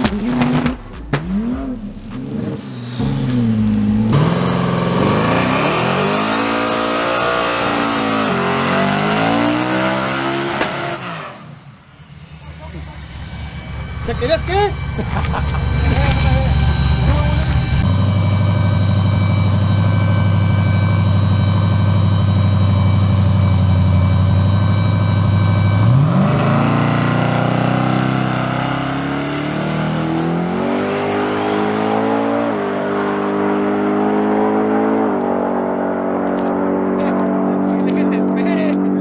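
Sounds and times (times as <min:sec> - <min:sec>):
race truck engine revving: 0:00.0 - 0:39.0.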